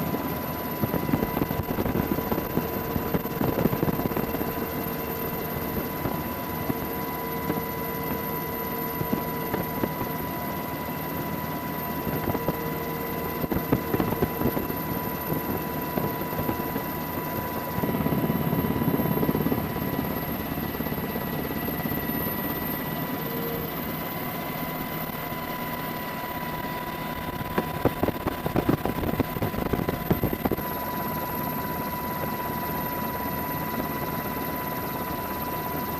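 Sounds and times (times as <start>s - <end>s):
constant whine: 0.0s - 35.9s
helicopter rotor blades beating: 0.0s - 35.9s.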